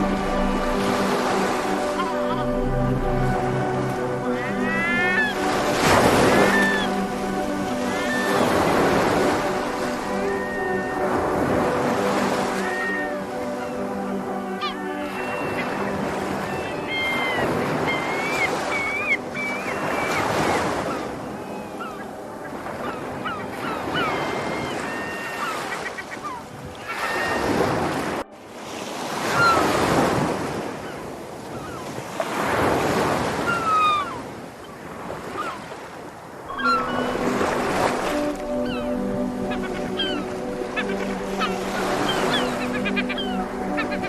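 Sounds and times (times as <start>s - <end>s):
sea waves breaking: 0.0s - 44.0s
seagulls calling: 0.0s - 44.0s.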